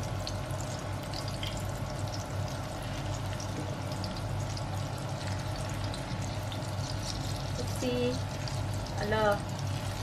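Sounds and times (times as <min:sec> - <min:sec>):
food sizzling in oil: 0:00.0 - 0:10.0
low steady hum: 0:00.0 - 0:10.0.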